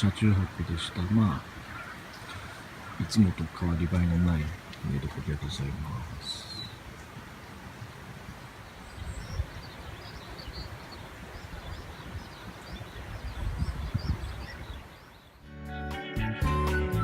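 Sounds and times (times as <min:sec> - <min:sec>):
small birds chirping: 0:00.0 - 0:15.4
wind rumbling on microphone: 0:00.0 - 0:15.4.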